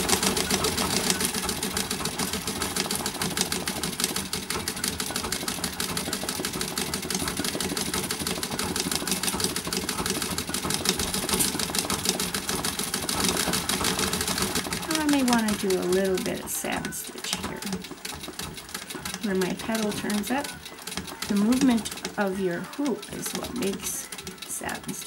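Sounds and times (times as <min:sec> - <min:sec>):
sewing machine clattering: 0:00.0 - 0:25.0.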